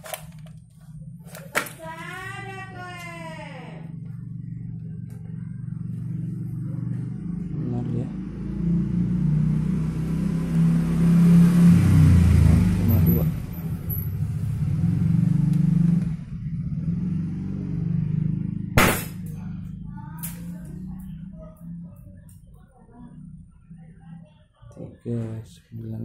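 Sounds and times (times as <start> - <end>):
engine-like drone: 0.0 - 26.0.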